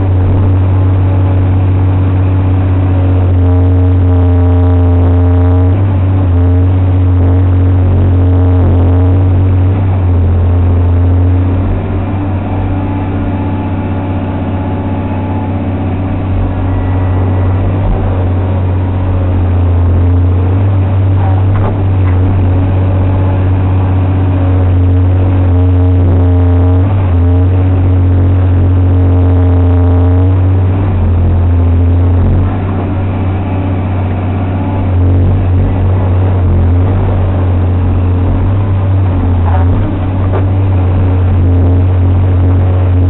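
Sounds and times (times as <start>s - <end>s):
excavator diesel engine droning: 0.0s - 43.0s.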